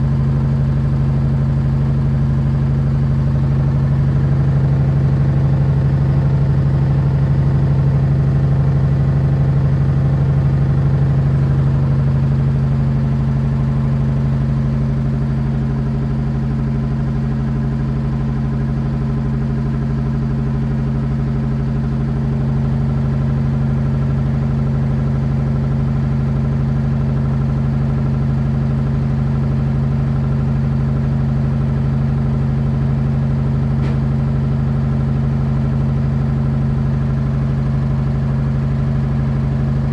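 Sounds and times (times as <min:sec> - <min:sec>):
washing machine low drone: 0:00.0 - 0:39.9.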